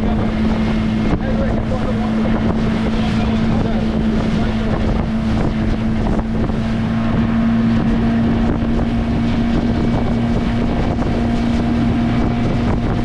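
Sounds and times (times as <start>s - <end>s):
motorboat engine droning: 0.0s - 13.0s
wind buffeting microphone: 0.0s - 13.0s.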